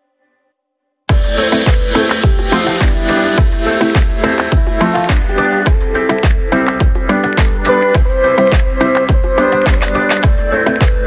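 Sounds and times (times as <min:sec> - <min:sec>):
dance music: 0:01.1 - 0:11.0
deep kick drum: 0:01.1 - 0:11.0
synth chords: 0:01.1 - 0:11.0.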